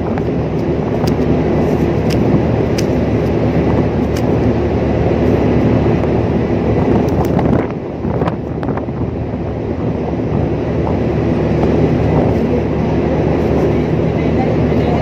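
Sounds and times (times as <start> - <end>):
ship machinery rumbling: 0.0 - 15.0.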